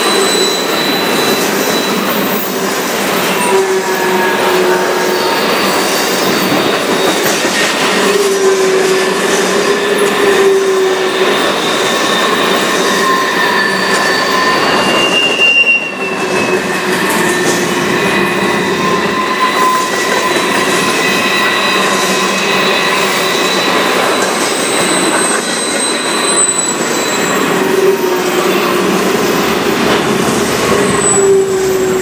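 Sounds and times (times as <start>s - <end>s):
freight cars rumbling on rails: 0.0s - 32.0s
high wheel squeals: 0.0s - 32.0s.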